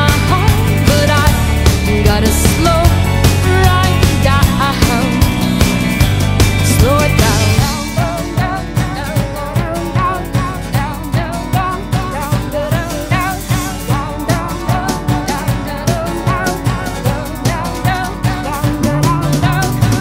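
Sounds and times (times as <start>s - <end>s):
steady drum beat: 0.0s - 20.0s
upbeat instrumental song: 0.0s - 20.0s.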